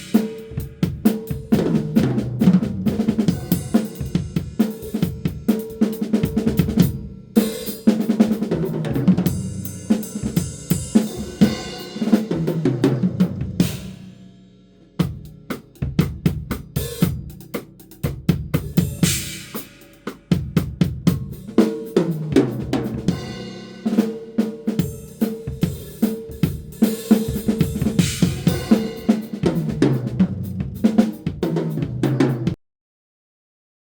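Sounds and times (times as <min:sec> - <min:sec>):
acoustic drum kit playing: 0:00.0 - 0:32.6.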